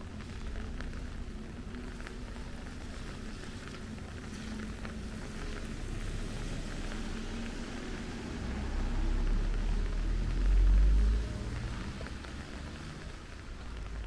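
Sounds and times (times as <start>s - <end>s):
low engine rumble: 0.0s - 14.0s
rain falling: 0.0s - 14.0s.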